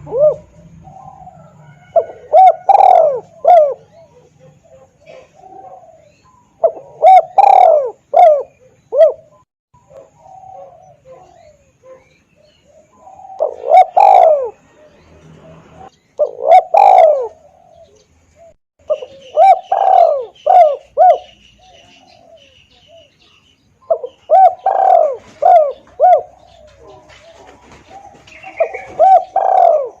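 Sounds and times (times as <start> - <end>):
dove cooing: 0.0 - 23.2, 23.8 - 30.0.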